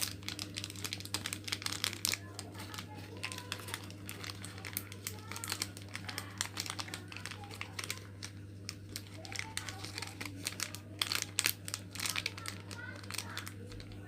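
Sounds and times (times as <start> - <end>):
plastic wrappers crinkling: 0.0 - 14.0
steady low hum: 0.0 - 14.0.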